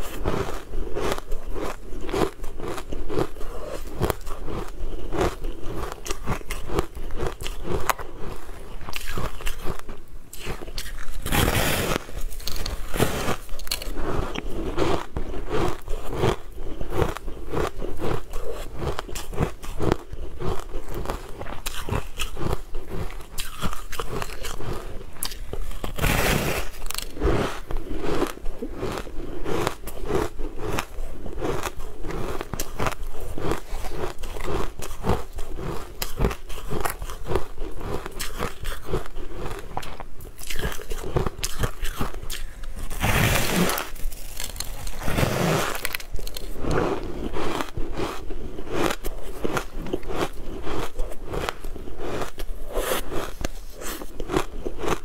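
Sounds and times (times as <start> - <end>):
crunchy biting and chewing: 0.0 - 55.0.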